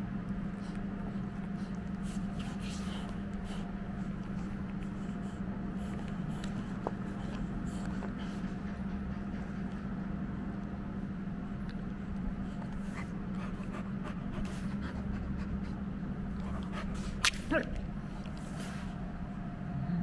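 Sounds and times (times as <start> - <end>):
puppy chewing a fabric toy: 0.0 - 18.6
steady low hum: 0.0 - 20.0.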